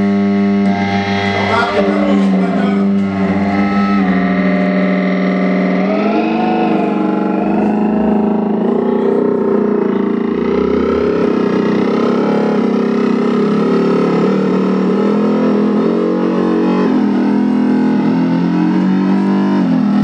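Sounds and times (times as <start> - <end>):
distorted drone: 0.0 - 20.0.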